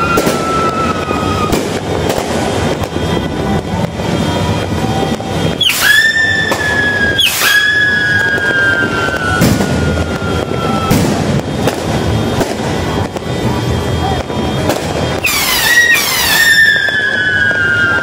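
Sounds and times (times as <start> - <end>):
firecrackers crackling: 0.0 - 18.0
firework crack: 0.0 - 18.0
fireworks whistling: 0.0 - 18.0.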